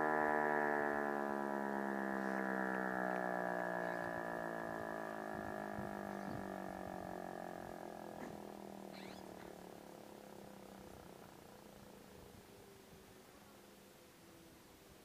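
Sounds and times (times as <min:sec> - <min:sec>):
warning siren winding down: 0:00.0 - 0:13.3.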